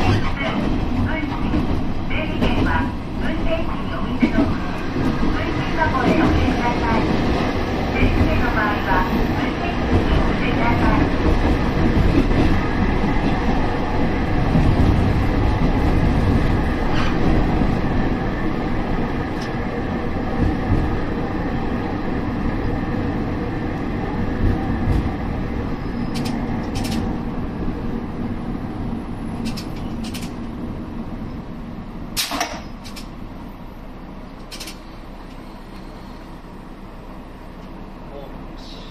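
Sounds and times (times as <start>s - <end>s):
railcar wheel rumble: 0.0s - 38.9s.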